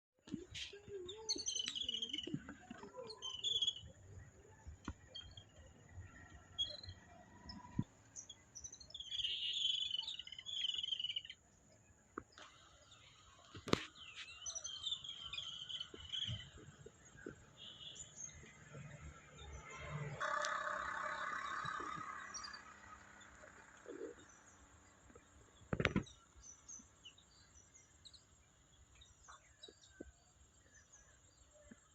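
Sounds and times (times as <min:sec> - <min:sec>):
small birds chirping: 0:00.3 - 0:19.6, 0:20.3 - 0:31.9.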